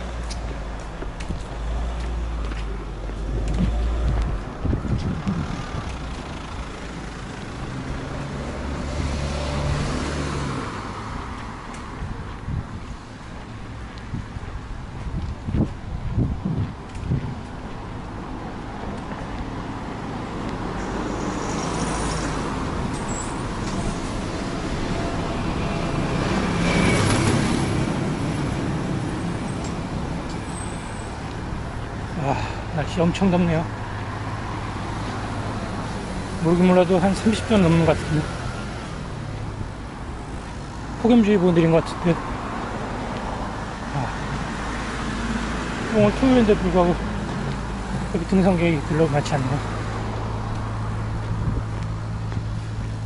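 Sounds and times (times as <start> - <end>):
low engine hum: 0.0 - 41.0, 42.0 - 53.0
car passing: 1.4 - 14.8, 16.2 - 53.0.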